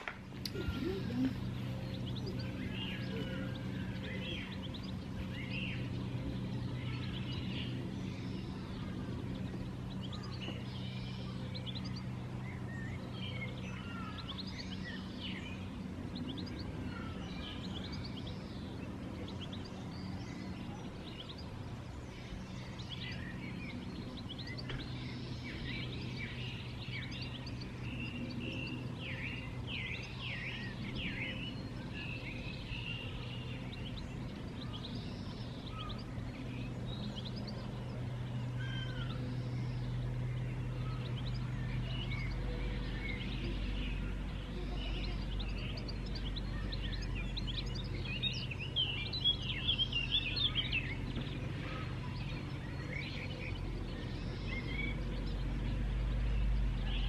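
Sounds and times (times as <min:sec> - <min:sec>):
low hum: 0:00.0 - 0:57.0
songbirds chirping and singing: 0:00.0 - 0:57.0.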